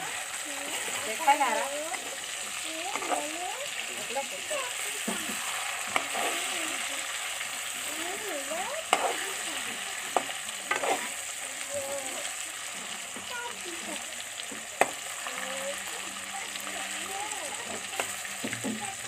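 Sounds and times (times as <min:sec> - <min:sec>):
fish sizzling in oil: 0:00.0 - 0:19.0.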